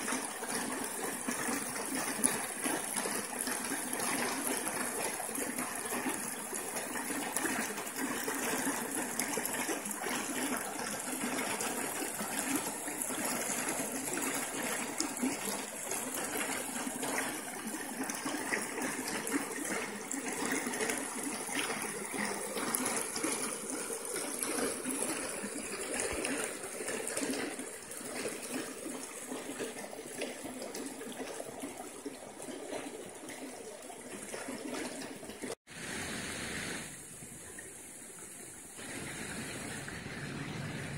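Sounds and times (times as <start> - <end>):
creek water rushing over logs: 0.0 - 40.9.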